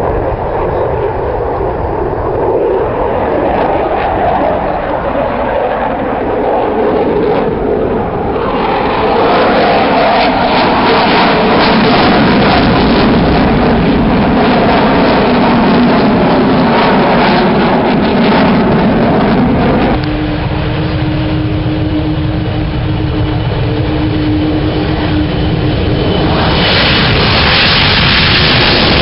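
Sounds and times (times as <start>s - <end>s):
loud aircraft engine: 0.0s - 29.0s.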